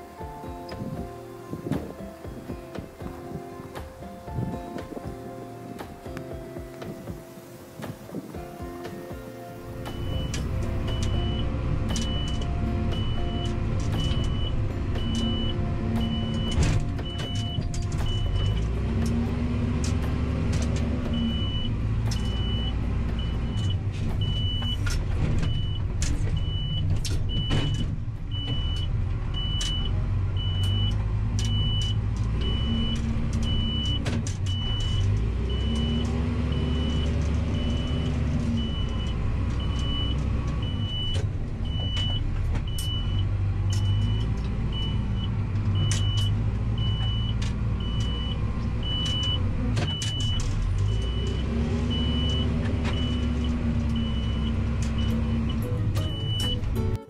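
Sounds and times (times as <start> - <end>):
backhoe engine revving: 9.6 - 57.0.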